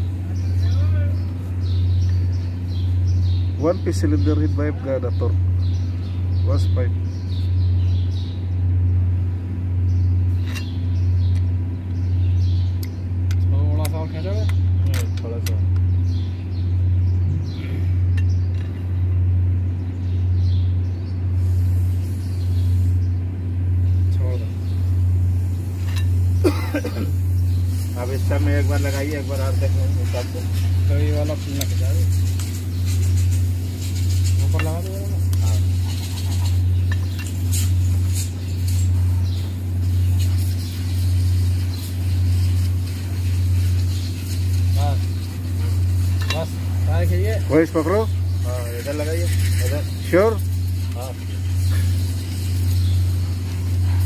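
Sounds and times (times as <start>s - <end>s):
high bird chirps: 0.0s - 9.0s, 9.8s - 15.2s, 15.8s - 54.0s
low mechanical hum pulsing: 0.0s - 54.0s.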